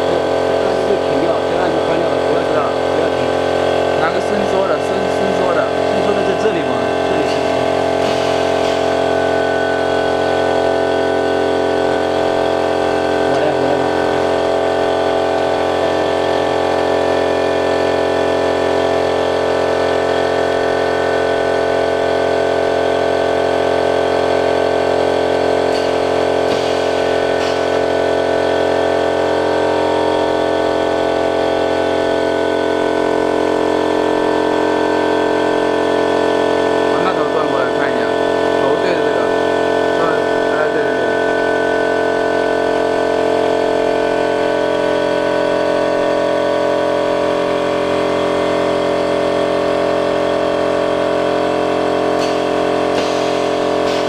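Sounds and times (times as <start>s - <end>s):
workshop machinery humming: 0.0s - 54.0s.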